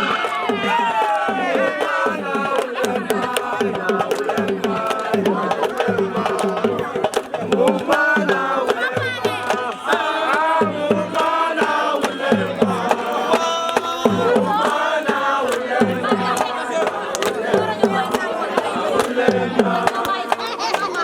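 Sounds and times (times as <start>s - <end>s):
voices chanting: 0.0s - 21.0s.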